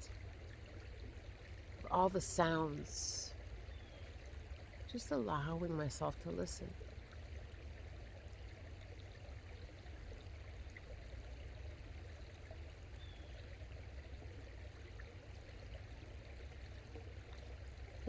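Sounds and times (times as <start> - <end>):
creek flowing: 0.0 - 18.0.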